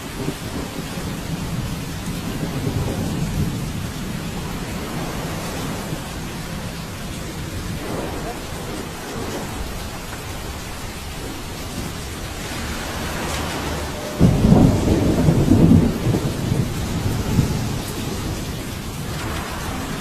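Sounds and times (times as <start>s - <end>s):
rain falling: 0.0s - 20.0s
thunder rumbling: 0.0s - 20.0s.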